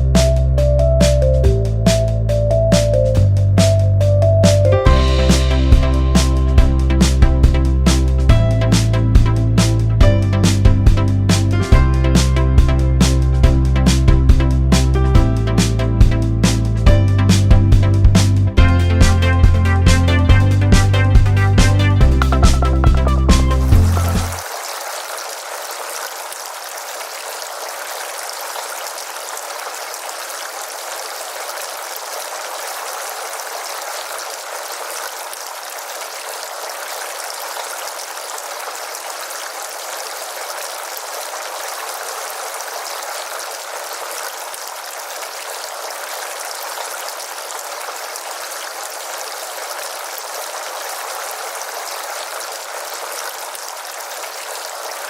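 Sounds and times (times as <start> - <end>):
fountain water splashing: 4.9 - 15.0, 20.6 - 55.0.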